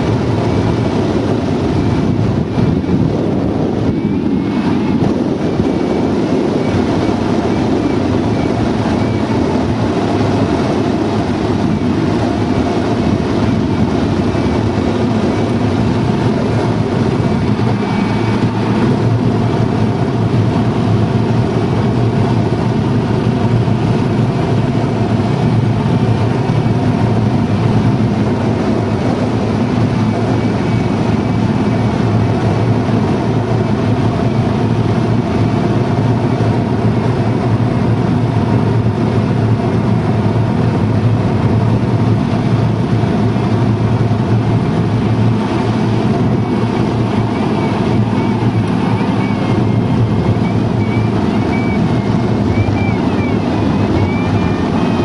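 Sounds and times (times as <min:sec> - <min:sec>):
rushing airflow in cockpit: 0:00.0 - 0:55.0.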